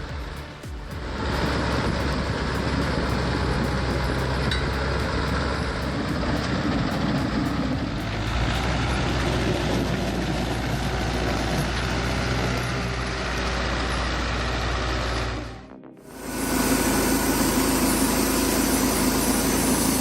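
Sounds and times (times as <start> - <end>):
heavy vehicle engine running: 0.0 - 20.0
mechanical noise: 0.0 - 20.0.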